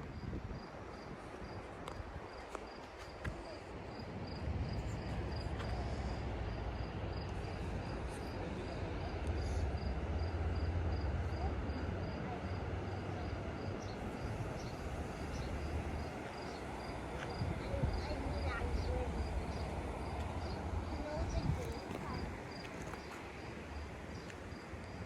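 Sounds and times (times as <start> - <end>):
cricket chirping: 0.2 - 25.0.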